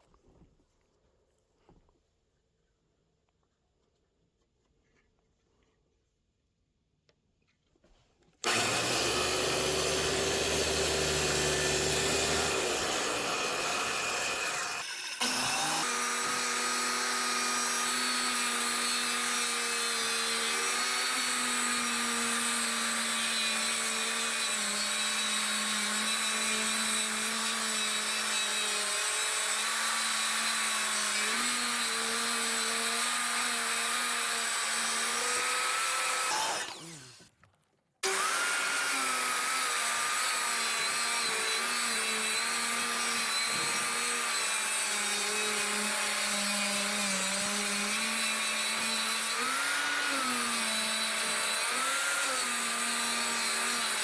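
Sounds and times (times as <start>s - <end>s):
electric power tool motor running: 8.4s - 37.3s, 38.0s - 54.0s.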